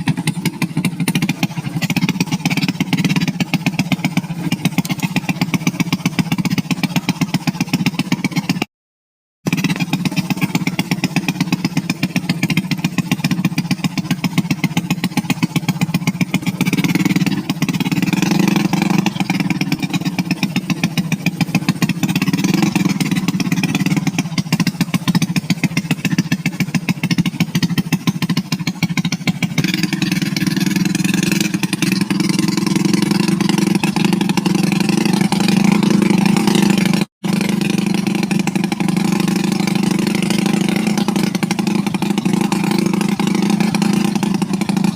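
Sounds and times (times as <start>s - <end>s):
motorcycle engine idling: 0.0s - 8.7s, 9.5s - 44.9s.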